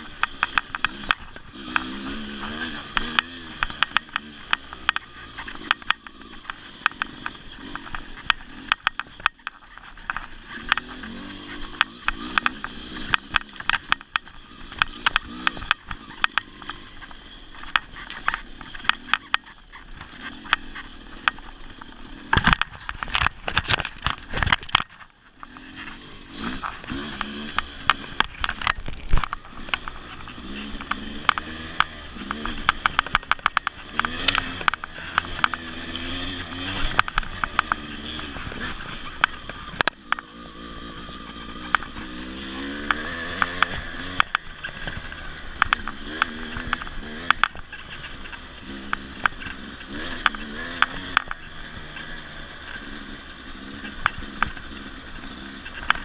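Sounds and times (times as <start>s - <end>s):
bike knocking and clattering: 0.0s - 56.0s
dirt bike engine revving: 0.0s - 56.0s.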